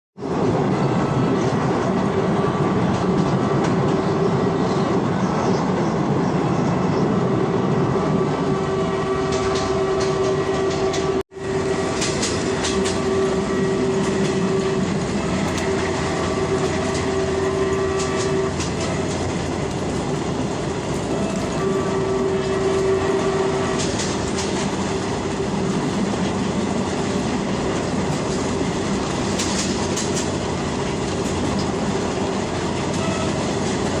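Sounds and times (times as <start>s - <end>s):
train wheels clicking on rails: 0.2s - 6.7s, 9.0s - 34.0s
train rumble: 0.2s - 34.0s.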